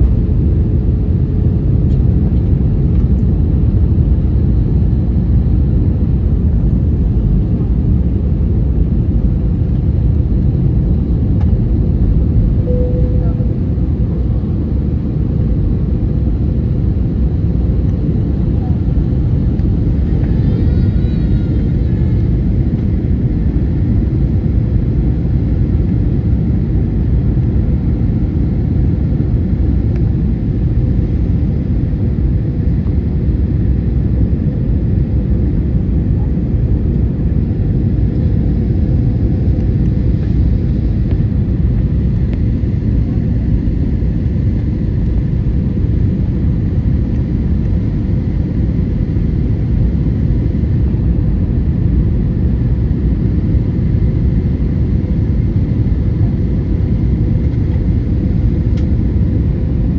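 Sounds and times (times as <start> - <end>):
aircraft cabin engine rumble: 0.0 - 59.9
faint constant hum: 0.0 - 59.9.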